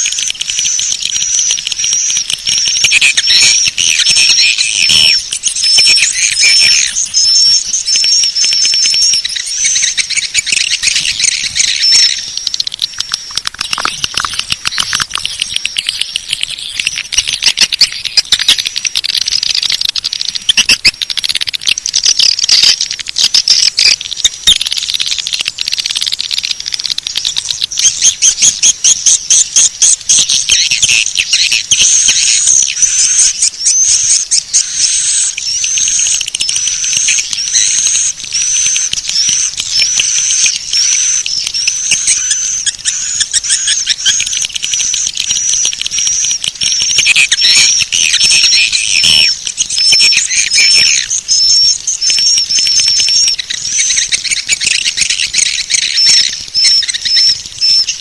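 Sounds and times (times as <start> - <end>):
swiftlets twittering and chirping: 0.0 - 58.0.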